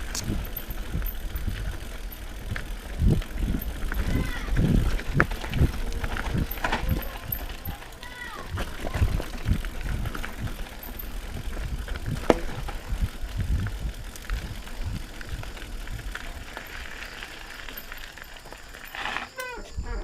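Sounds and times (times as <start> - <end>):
bike rattling over rough trail: 0.0 - 20.0.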